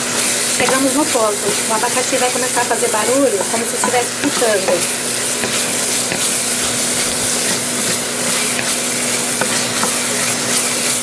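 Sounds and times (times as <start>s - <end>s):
pineapple sizzling in a pan: 0.0s - 11.0s
spatula scraping a pan: 0.0s - 11.0s.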